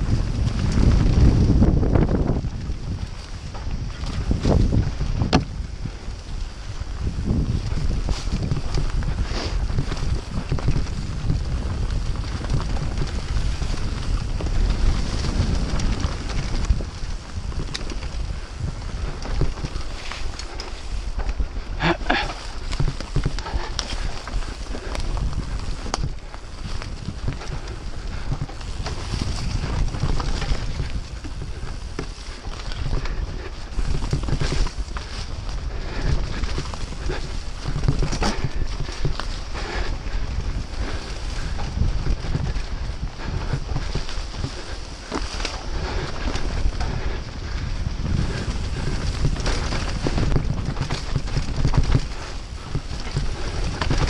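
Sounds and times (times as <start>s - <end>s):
bike clicks and rattles: 0.0s - 54.0s
tyre noise on dirt: 0.0s - 54.0s
wind buffeting microphone: 0.0s - 54.0s.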